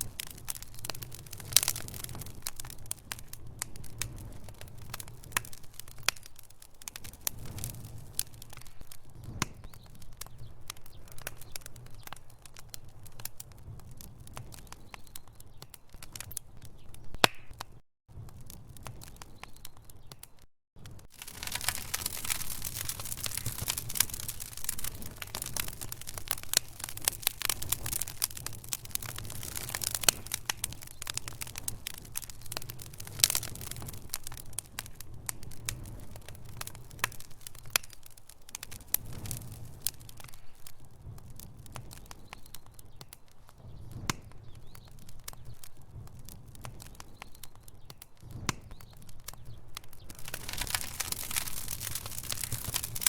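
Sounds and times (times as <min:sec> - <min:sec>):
logs crackling and popping: 0:00.0 - 0:53.0
low rumble of flame: 0:00.0 - 0:53.0.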